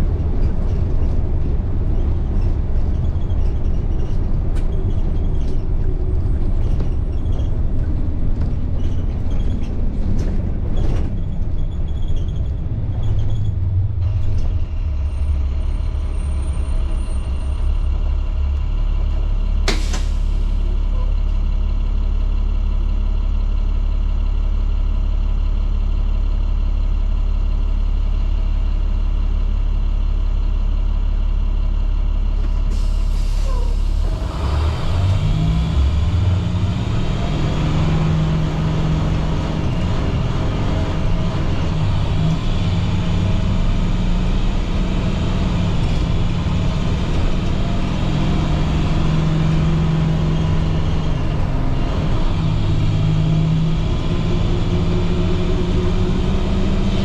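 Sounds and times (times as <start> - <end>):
road and cabin rumble: 0.0 - 22.9, 32.2 - 57.0
diesel bus engine running: 0.0 - 57.0.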